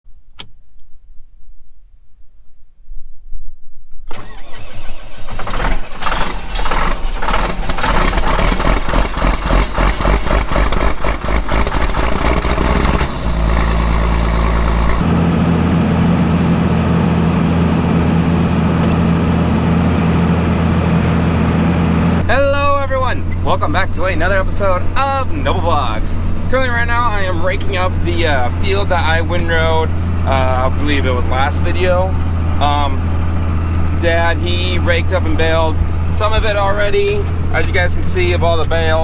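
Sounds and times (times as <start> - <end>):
diesel tractor engine: 4.1 - 39.0.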